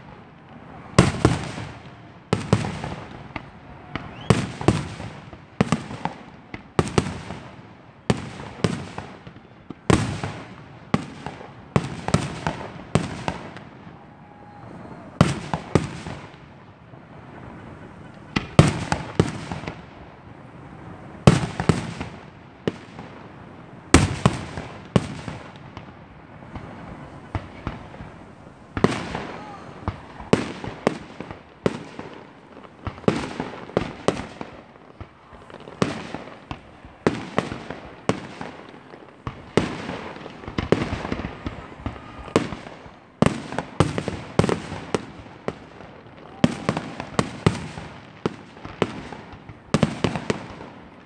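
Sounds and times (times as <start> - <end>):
fireworks bursting: 0.0 - 51.0.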